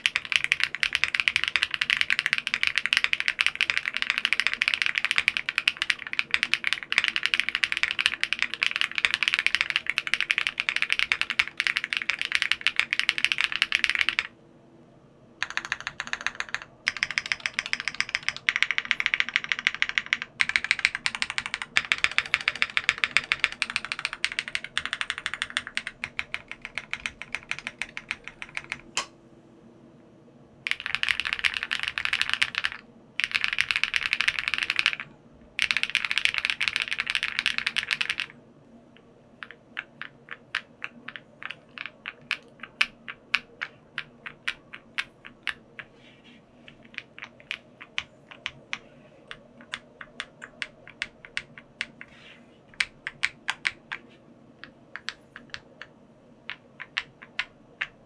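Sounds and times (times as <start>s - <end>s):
typing on mechanical keyboard: 0.0s - 14.3s, 15.4s - 28.9s, 30.7s - 38.4s, 39.4s - 46.0s, 46.7s - 55.9s, 56.5s - 58.0s.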